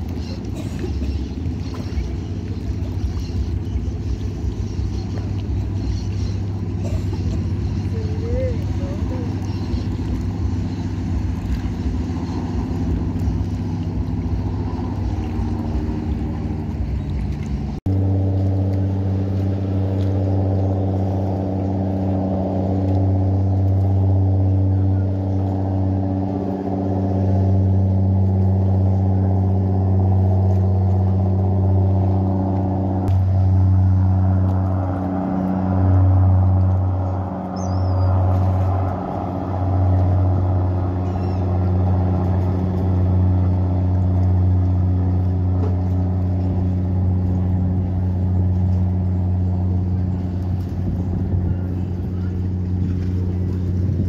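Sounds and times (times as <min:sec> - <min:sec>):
boat engines droning: 0:00.0 - 0:54.0.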